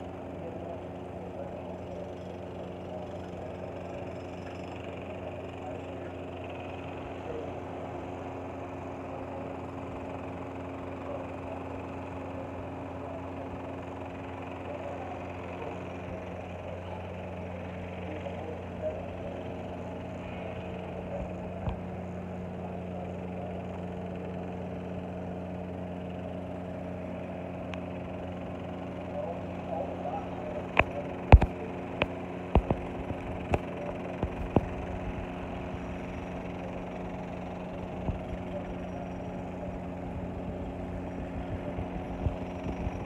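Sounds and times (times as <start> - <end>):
motor humming: 0.0 - 43.0.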